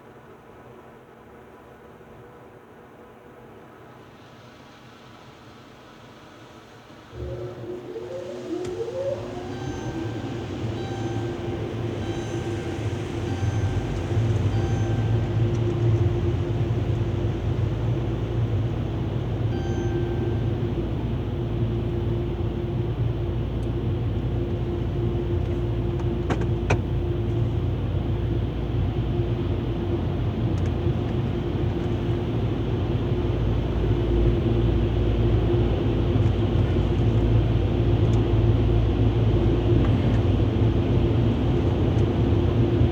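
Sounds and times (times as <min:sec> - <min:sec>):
car wash machinery whining and humming: 0:00.0 - 0:42.9.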